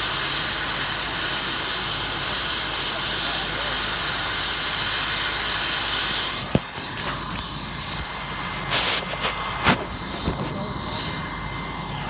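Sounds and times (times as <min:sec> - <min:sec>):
helicopter turbine and rotor noise: 0:00.0 - 0:12.0.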